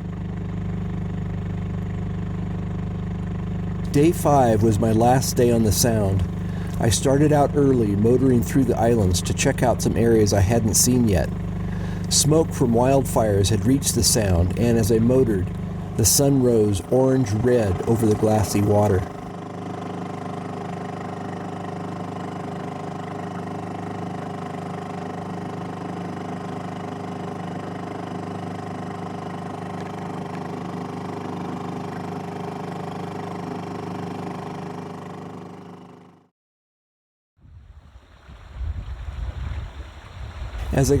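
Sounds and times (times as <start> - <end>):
outboard motor humming: 0.0 - 36.3, 37.5 - 41.0.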